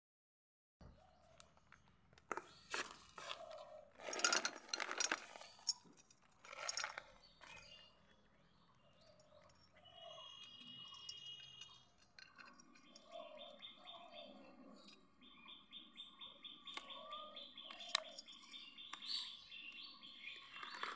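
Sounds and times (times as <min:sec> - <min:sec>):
bird chirping: 0:00.8 - 0:06.1, 0:06.7 - 0:20.9.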